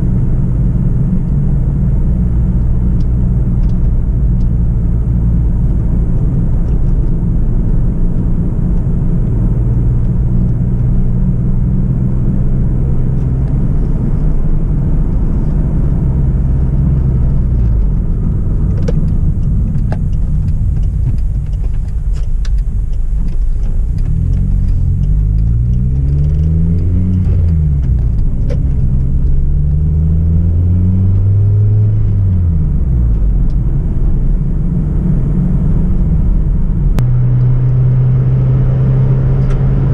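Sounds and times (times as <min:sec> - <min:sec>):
car engine and exhaust droning: 0:00.0 - 0:39.9.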